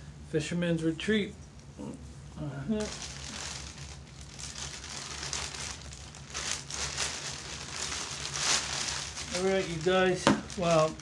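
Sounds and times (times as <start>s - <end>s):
low steady hum: 0.0s - 11.0s
rustling and crinkling handling noise: 2.2s - 11.0s.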